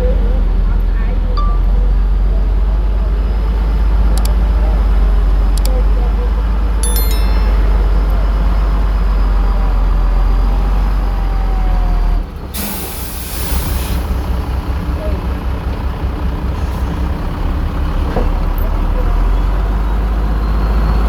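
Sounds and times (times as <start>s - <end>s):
diesel engine drone: 0.0s - 21.0s.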